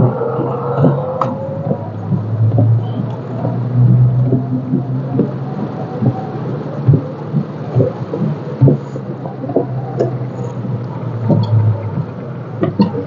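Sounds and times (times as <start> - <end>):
car engine hum: 0.0 - 13.0
low thumps: 0.0 - 13.0
rain hissing on car: 0.0 - 13.0.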